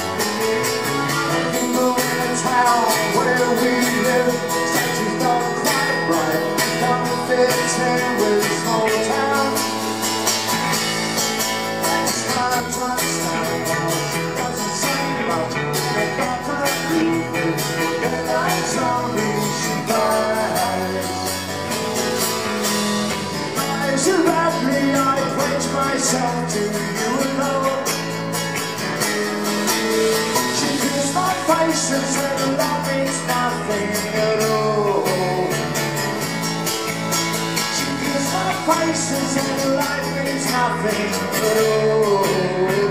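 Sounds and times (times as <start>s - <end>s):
drums: 0.0s - 42.9s
electric bass guitar: 0.0s - 42.9s
strummed acoustic guitar: 0.0s - 42.9s.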